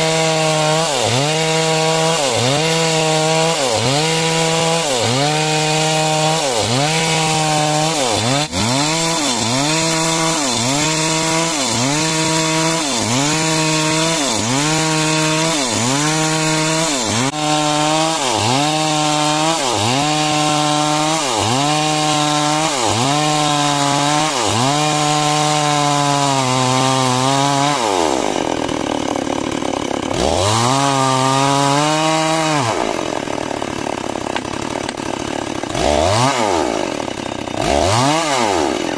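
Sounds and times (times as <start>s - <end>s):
chainsaw cutting timber: 0.0s - 38.9s.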